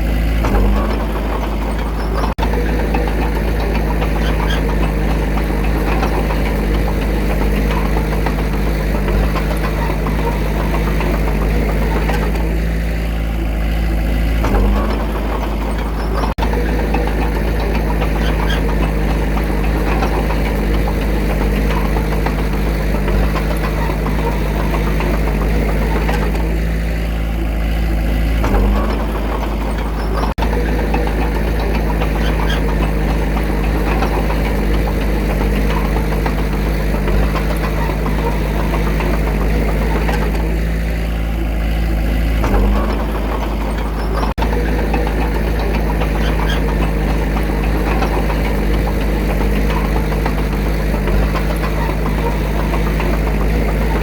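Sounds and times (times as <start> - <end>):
earthmover diesel engine clattering: 0.0 - 54.0.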